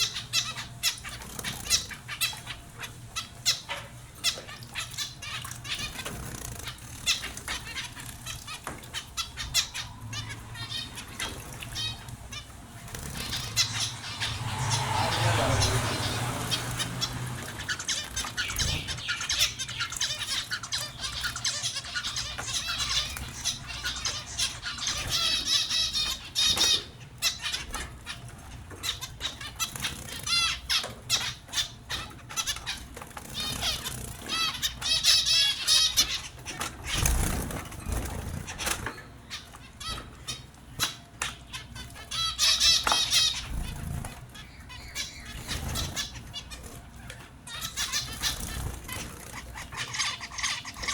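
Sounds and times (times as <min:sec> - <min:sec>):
finches chirping: 0:00.0 - 0:50.9
wings fluttering and splashing: 0:00.0 - 0:50.9.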